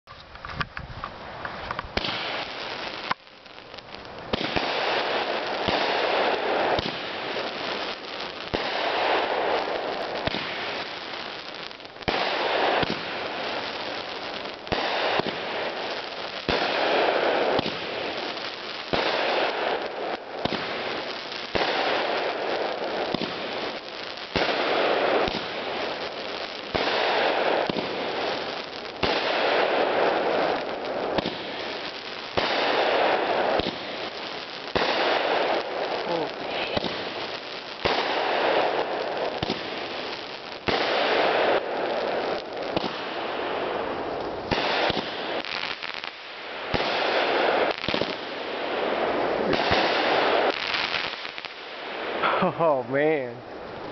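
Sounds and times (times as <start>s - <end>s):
firework hissing and crackling: 0.3s - 53.9s.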